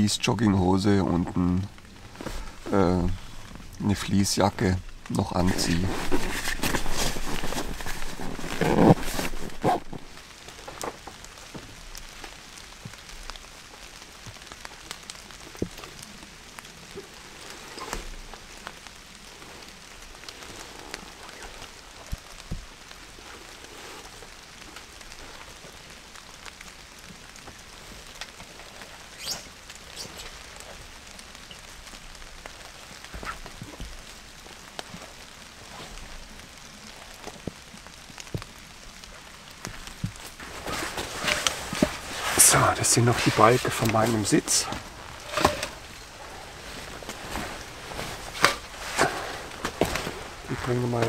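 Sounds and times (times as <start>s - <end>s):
light rain pattering: 0.0s - 51.0s.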